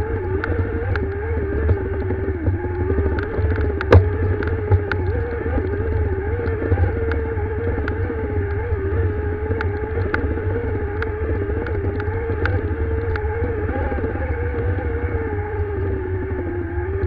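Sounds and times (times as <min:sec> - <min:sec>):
motorcycle engine running hard: 0:00.0 - 0:17.0
wind on microphone: 0:00.0 - 0:17.0.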